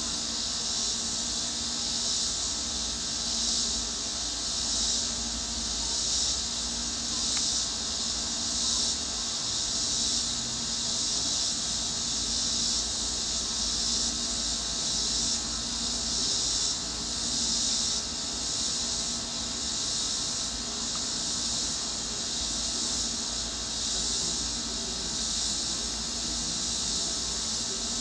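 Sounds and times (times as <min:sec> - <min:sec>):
insects chirping chorus: 0:00.0 - 0:28.0.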